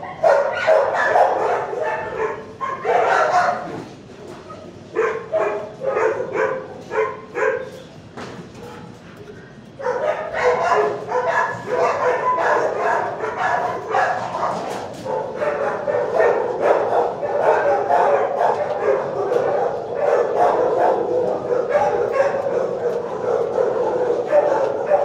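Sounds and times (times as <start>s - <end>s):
dogs barking: 0.0s - 9.0s, 9.6s - 25.0s.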